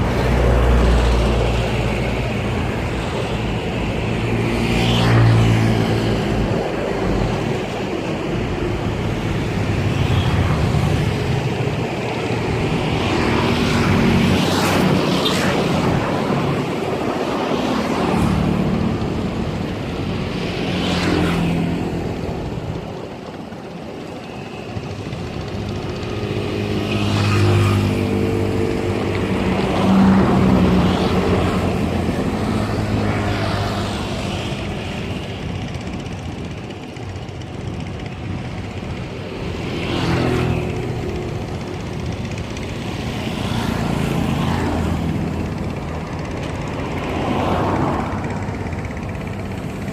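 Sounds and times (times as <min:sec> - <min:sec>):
motor engine running: 0:00.0 - 0:49.9.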